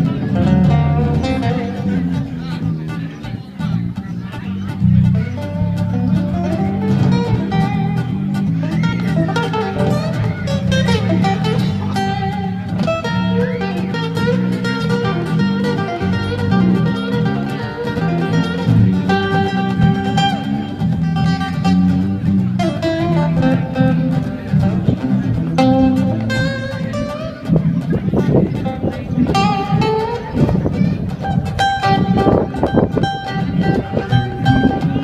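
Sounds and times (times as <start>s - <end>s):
guitar lead with bending notes: 0.0s - 35.0s
stepping bass line: 0.0s - 35.0s.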